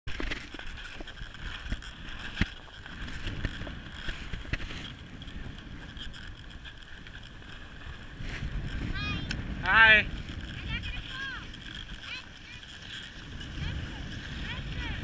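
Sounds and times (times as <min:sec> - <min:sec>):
skis scraping over snow: 0:00.1 - 0:15.0
wind on microphone: 0:00.1 - 0:15.0.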